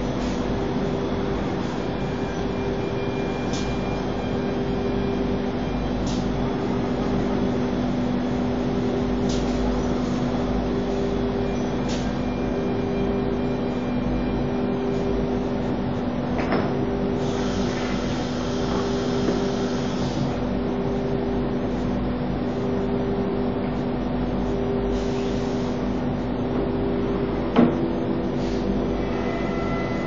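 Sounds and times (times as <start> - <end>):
machine and dust extraction hum: 0.0 - 30.0.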